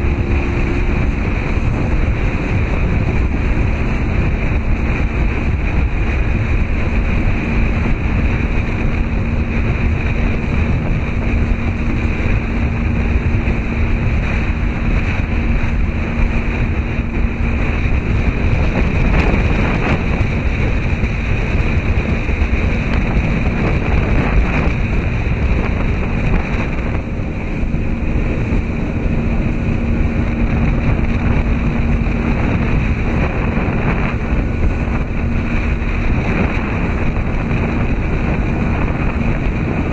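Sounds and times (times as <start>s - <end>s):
constant low hum: 0.0s - 39.9s
sea water rushing: 0.0s - 39.9s
wind: 0.0s - 39.9s.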